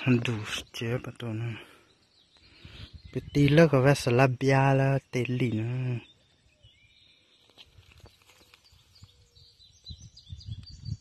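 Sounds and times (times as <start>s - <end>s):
small bird chirps: 0.0s - 11.0s.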